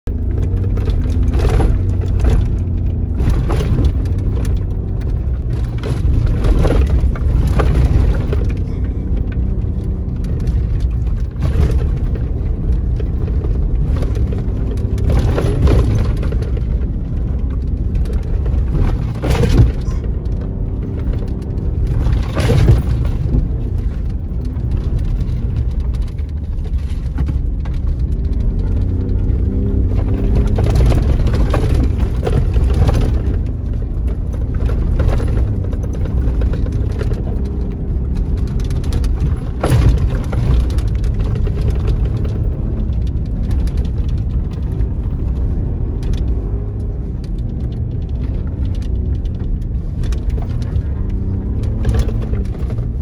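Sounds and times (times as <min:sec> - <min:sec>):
engine and tyre rumble: 0:00.0 - 0:53.0
truck thumping and rattling: 0:00.1 - 0:53.0.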